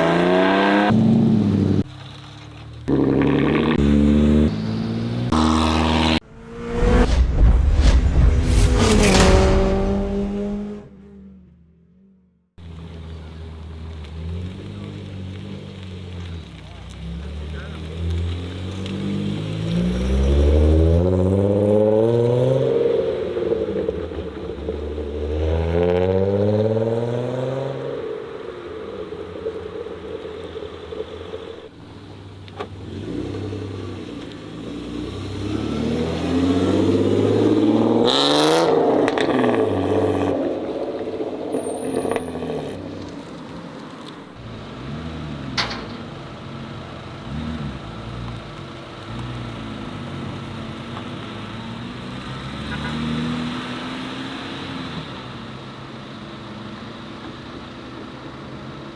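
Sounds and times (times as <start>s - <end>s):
car engines revving past: 0.0s - 11.7s, 12.8s - 55.6s.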